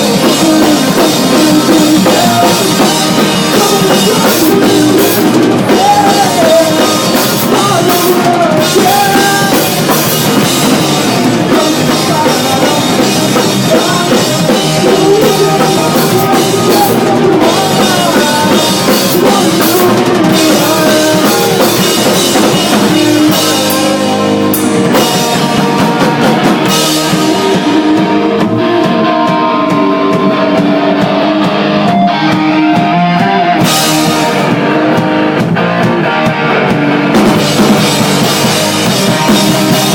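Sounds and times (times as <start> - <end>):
distorted electric guitars: 0.0 - 39.9
rock drum kit: 0.0 - 39.9.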